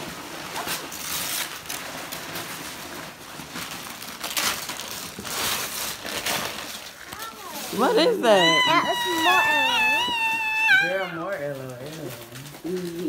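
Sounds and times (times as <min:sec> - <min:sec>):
wrapping paper tearing and rustling: 0:00.0 - 0:13.0.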